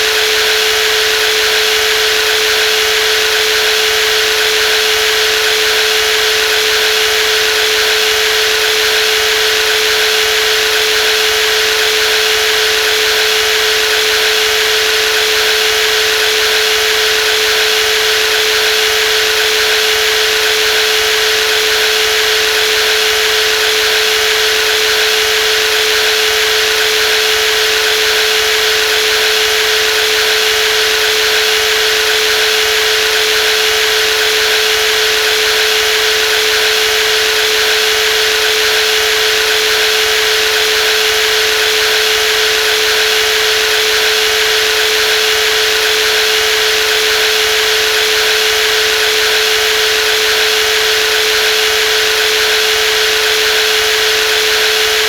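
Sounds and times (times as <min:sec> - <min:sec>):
jigsaw running: 0:00.1 - 0:55.0.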